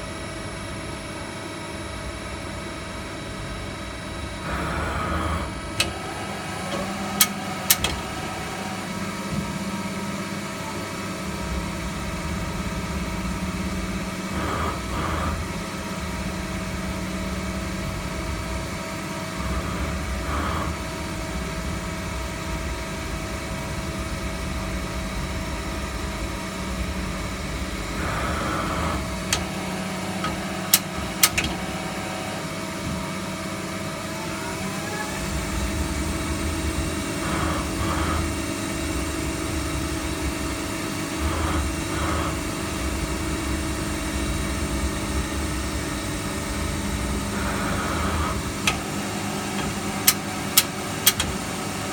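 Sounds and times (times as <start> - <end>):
lathe machine hum: 0.0 - 51.9.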